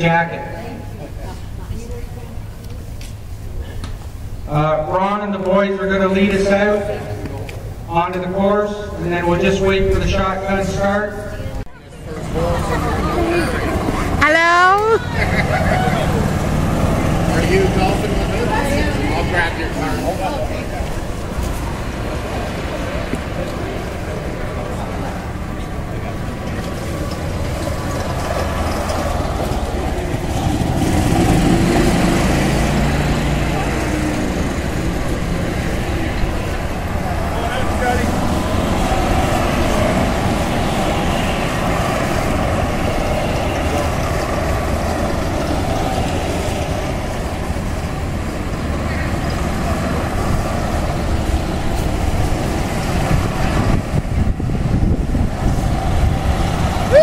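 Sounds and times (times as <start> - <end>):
golf cart engines driving past: 0.0 - 57.0
low rumble of motors and tyres: 0.0 - 57.0.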